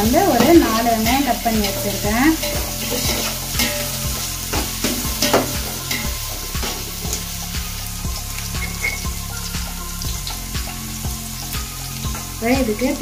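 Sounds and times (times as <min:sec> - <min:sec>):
onions sizzling in hot oil: 0:00.0 - 0:13.0
ladle scraping pot: 0:00.4 - 0:07.5, 0:08.2 - 0:12.4.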